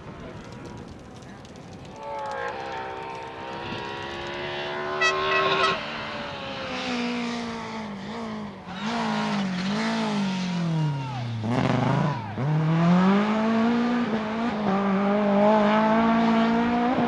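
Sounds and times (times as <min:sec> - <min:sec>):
rally car engine revving: 0:01.9 - 0:17.0.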